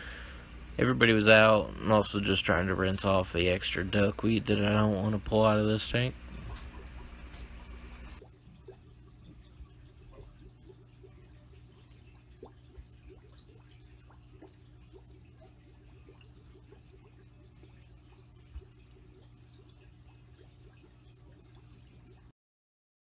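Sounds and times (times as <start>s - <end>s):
steady low hum: 0.0s - 22.3s
water sloshing and dripping: 0.0s - 22.3s.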